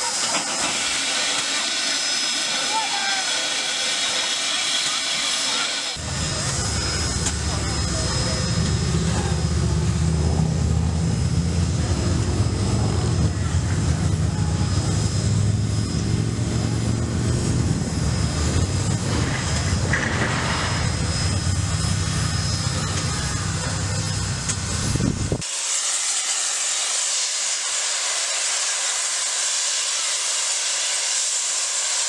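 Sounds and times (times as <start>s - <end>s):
steam hissing: 0.0s - 9.8s, 12.8s - 32.0s
steam locomotive rumbling: 0.0s - 32.0s.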